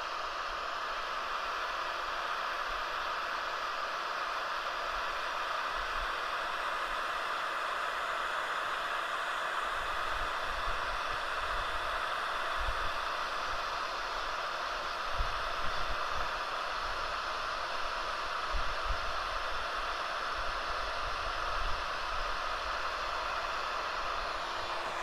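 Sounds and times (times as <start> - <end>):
heat gun blowing hot air: 0.0 - 25.0.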